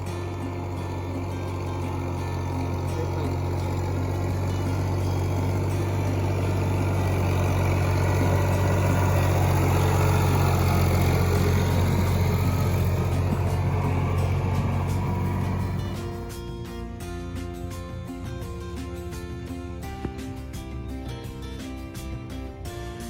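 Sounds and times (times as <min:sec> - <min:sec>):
tractor engine humming: 0:00.0 - 0:23.0.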